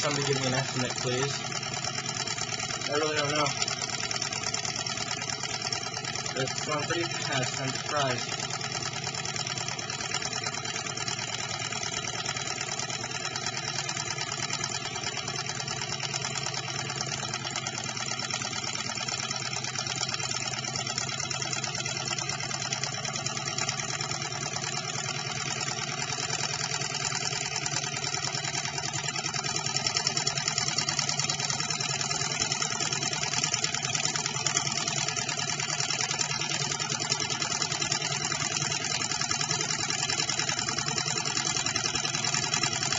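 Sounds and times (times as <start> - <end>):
stirling engine clattering: 0.0 - 42.9.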